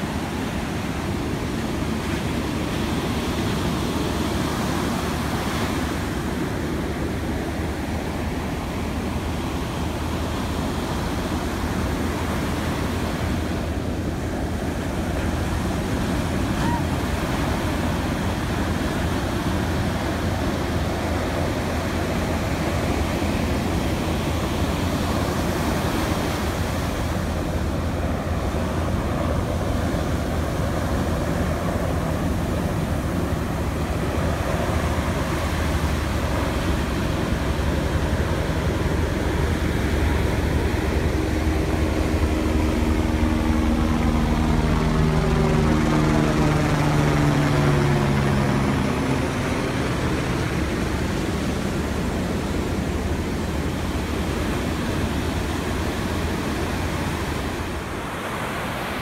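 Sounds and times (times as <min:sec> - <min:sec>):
engine hum: 0:00.0 - 0:59.0
ocean surf breaking: 0:00.0 - 0:59.0.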